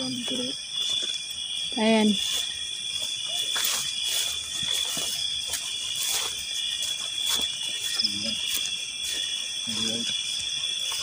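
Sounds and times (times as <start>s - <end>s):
crickets trilling: 0.0s - 11.0s
footsteps through grass: 0.0s - 11.0s.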